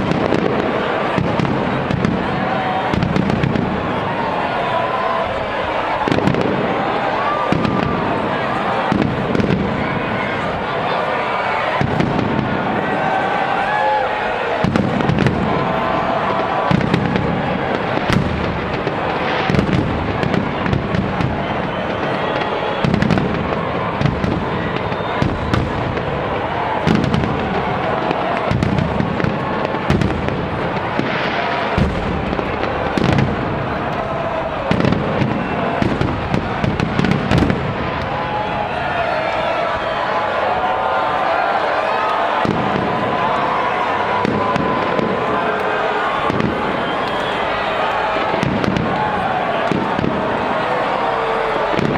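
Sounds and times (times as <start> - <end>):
firework shells booming: 0.0 - 10.6, 11.6 - 40.0, 42.2 - 51.9
firework crackling: 0.0 - 51.9.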